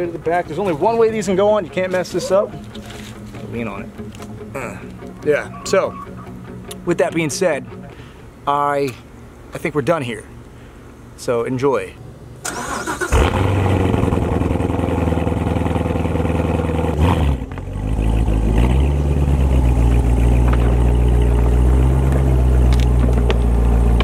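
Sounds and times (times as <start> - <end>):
car engine starting and idling: 0.0 - 9.0, 12.3 - 24.0.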